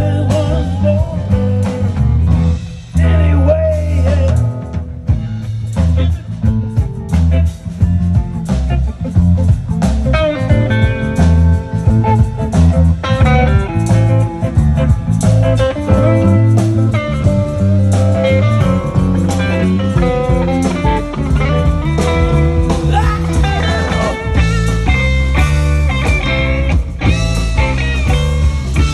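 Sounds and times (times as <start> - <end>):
live band playing: 0.0 - 28.9
drum hits: 4.7 - 28.9.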